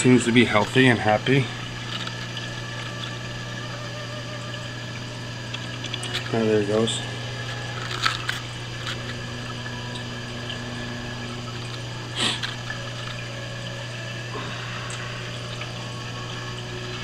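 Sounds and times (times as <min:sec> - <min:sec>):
circulating water hiss: 0:00.0 - 0:17.0
pump hum: 0:00.0 - 0:17.0.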